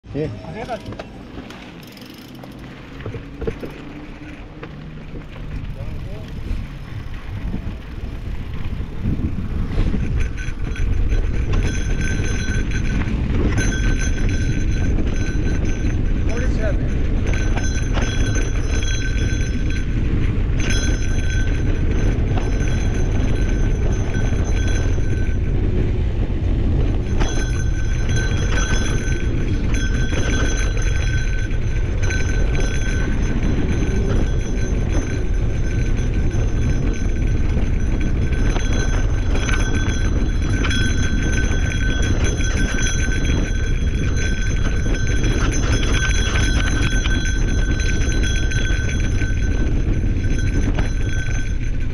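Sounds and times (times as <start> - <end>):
wind rushing over microphone: 0.0 - 51.9
bike knocks and rattles: 0.6 - 51.9.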